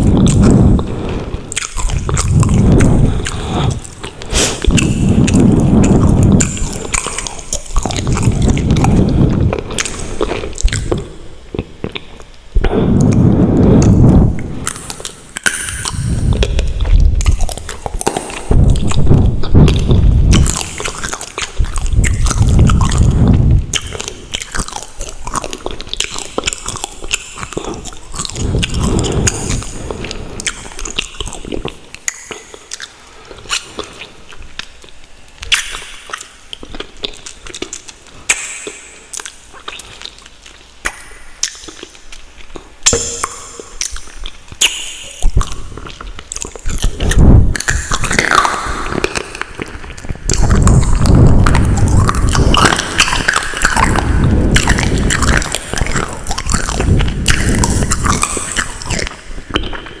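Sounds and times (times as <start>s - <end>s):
mouth clicks and smacks: 0.0s - 60.0s
person chewing noodles: 0.0s - 60.0s.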